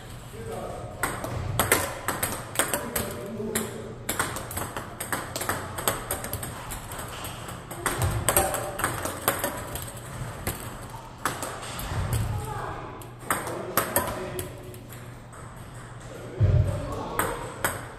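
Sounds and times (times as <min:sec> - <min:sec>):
table tennis balls hitting bats: 0:00.0 - 0:17.9.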